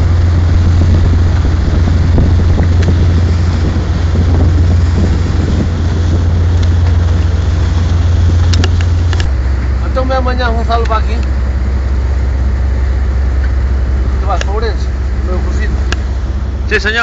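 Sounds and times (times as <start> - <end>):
churned water: 0.0 - 17.0
diesel engine low drone: 0.0 - 17.0
wind: 0.0 - 17.0.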